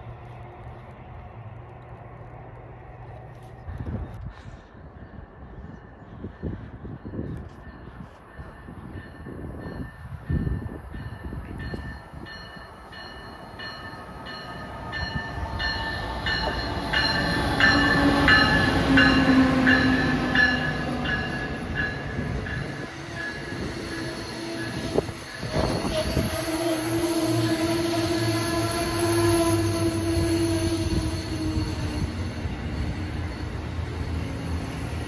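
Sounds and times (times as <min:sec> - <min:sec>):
passenger train passing at speed: 0:00.0 - 0:35.0.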